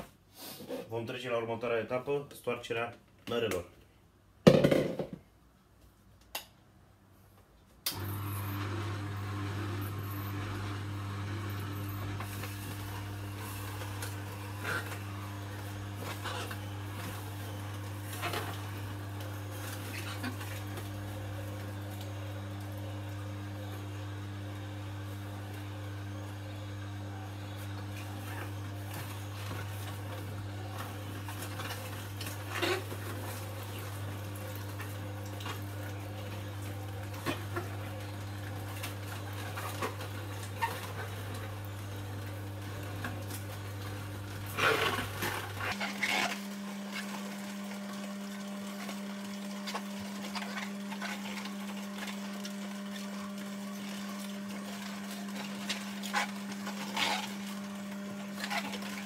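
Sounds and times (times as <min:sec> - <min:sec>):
juicer motor humming: 0:07.8 - 0:59.0.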